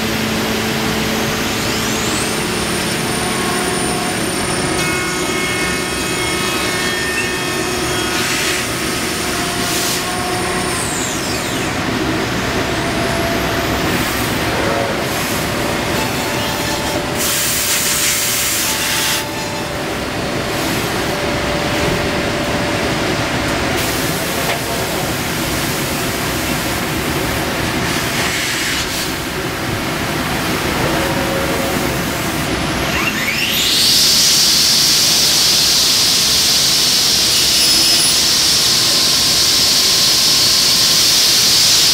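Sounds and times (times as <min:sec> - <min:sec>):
router milling wood: 0:00.2 - 0:22.6, 0:30.6 - 0:41.9.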